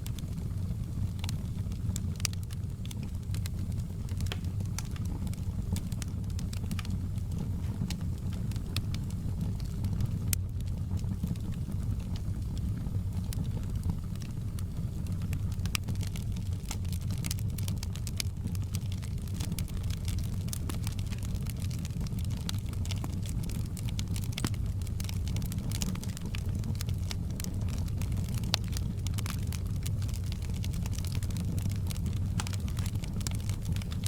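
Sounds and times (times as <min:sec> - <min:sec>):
fire crackling and popping: 0:00.0 - 0:34.0.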